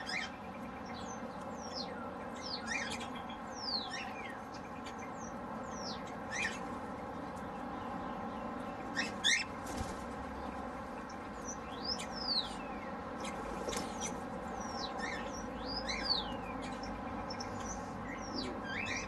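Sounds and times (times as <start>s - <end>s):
birds chirping: 0.0s - 19.0s
steady background hum: 0.0s - 19.0s
sweeping bird calls: 0.0s - 19.0s.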